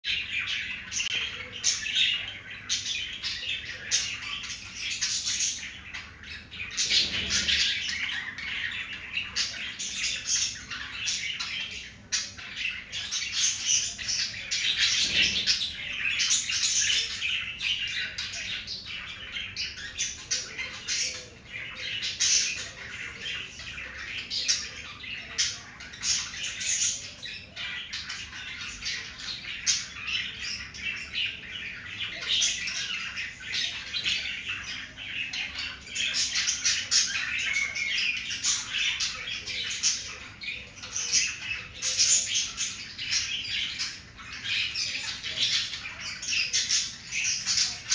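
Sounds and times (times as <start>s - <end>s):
budgerigars chattering: 0.1s - 47.9s.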